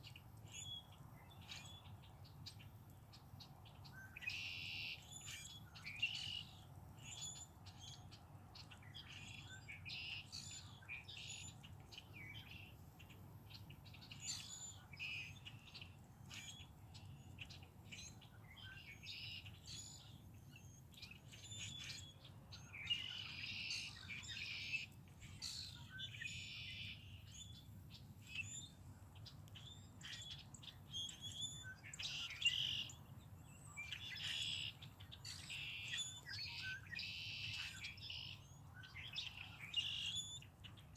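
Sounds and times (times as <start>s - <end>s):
songbirds chirping and singing: 0.1s - 40.9s.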